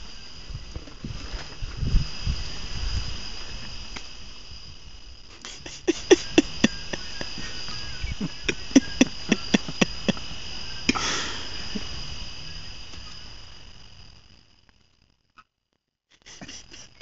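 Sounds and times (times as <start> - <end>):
high insect trilling: 0.0 - 15.0, 16.2 - 17.0.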